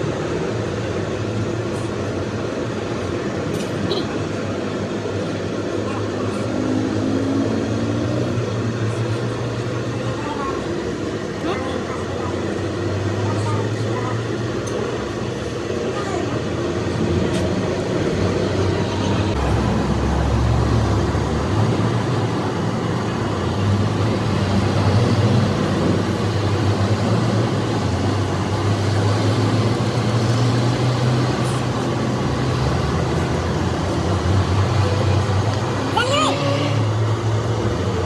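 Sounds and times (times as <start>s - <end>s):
engine running: 0.0s - 38.0s
noisy wash: 0.0s - 38.0s.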